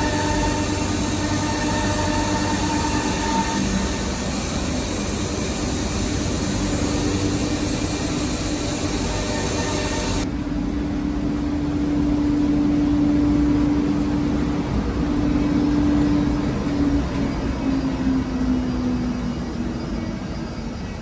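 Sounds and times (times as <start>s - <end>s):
constant hum: 0.0s - 21.0s
workshop machinery running: 0.0s - 21.0s.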